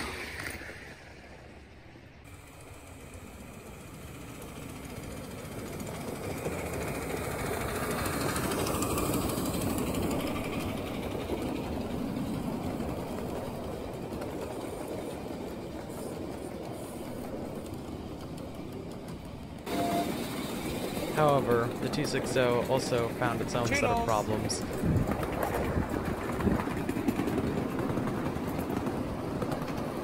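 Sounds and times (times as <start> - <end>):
miniature train running past: 0.0 - 30.0.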